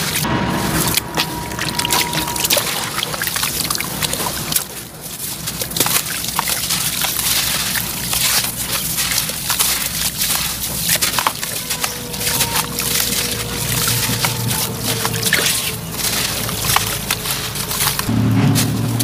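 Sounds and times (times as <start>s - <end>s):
water sloshing and trickling: 0.0s - 19.0s
wet block crunching by hand: 3.0s - 19.0s.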